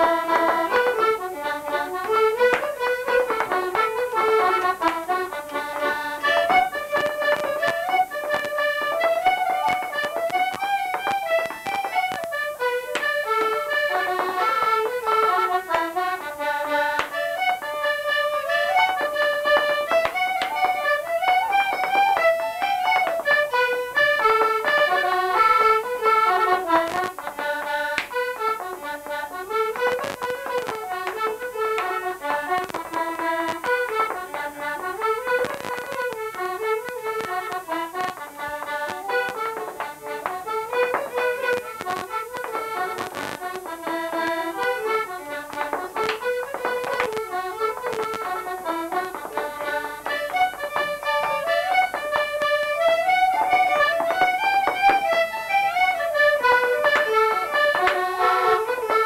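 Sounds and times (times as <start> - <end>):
accordion playing dance tune: 0.0 - 59.0.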